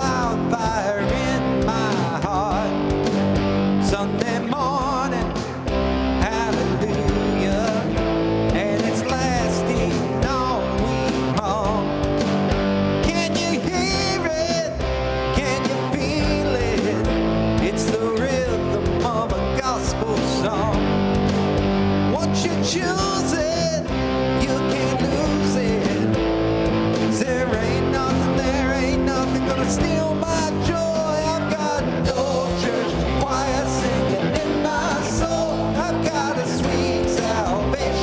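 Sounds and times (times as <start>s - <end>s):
guitar-led band music: 0.0s - 38.0s.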